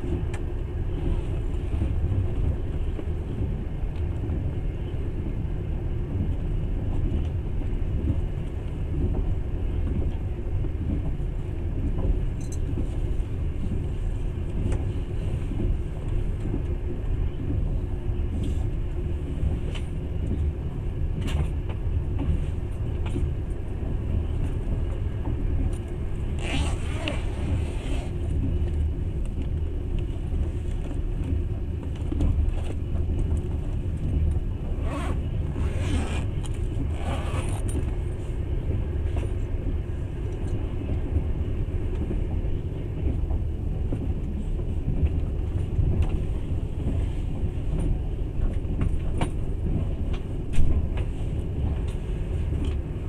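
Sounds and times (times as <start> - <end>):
train rumble inside carriage: 0.0 - 53.0.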